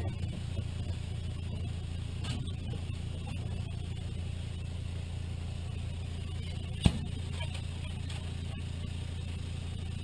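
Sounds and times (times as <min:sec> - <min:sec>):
machinery motor hum: 0:00.0 - 0:10.0.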